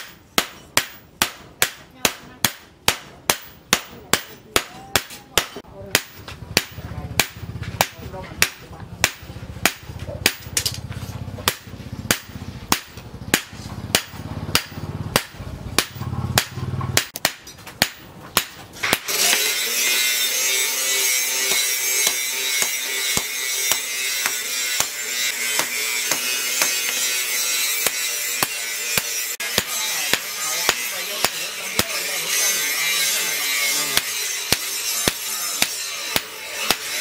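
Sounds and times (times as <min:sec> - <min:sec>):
hammer striking steel on anvil: 0:00.0 - 0:37.0.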